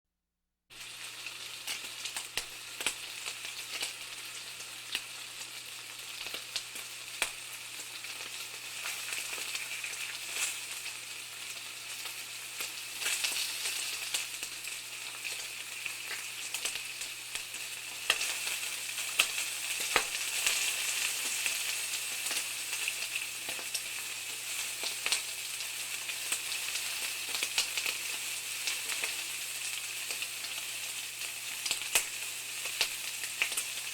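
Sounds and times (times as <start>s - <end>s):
bacon sizzling in a pan: 0.7s - 33.9s.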